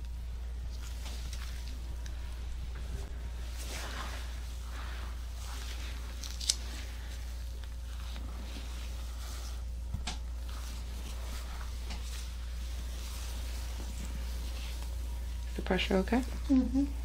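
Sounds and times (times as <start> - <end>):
hands rustling massaging back: 0.0 - 17.0
steady low hum: 0.0 - 17.0.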